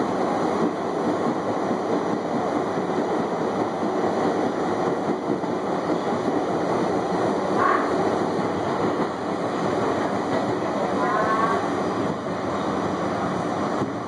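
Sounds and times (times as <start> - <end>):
subway train wheels on rail: 0.0 - 14.0.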